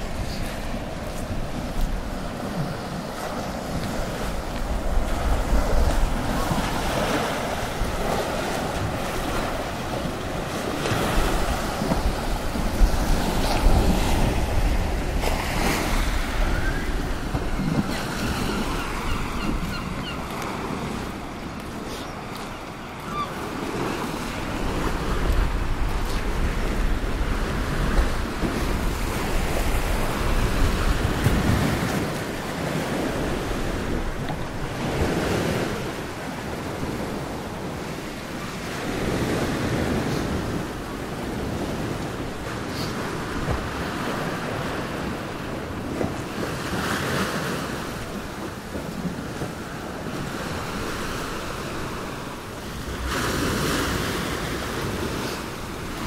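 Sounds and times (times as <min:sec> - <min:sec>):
sea waves washing in: 0:00.0 - 0:56.0
wind buffeting microphone: 0:00.0 - 0:56.0.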